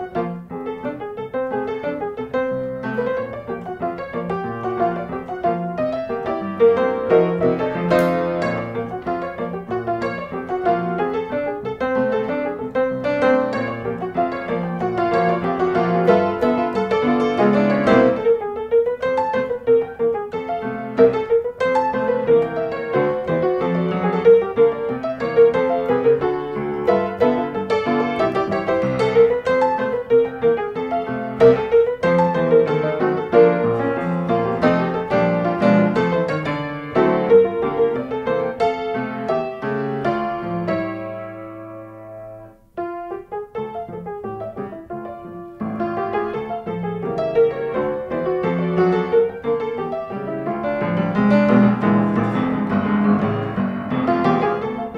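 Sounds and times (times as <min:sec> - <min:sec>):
gentle piano music: 0:00.0 - 0:54.9.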